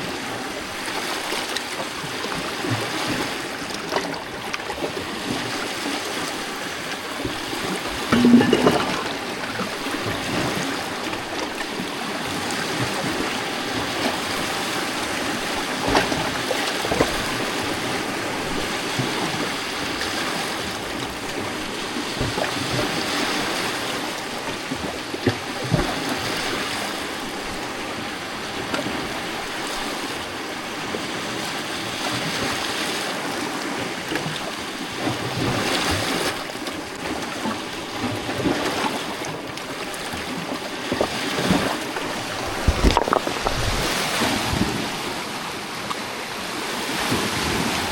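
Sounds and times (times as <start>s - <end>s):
water splashes: 0.0s - 47.9s
waves lapping on rocks: 0.0s - 47.9s.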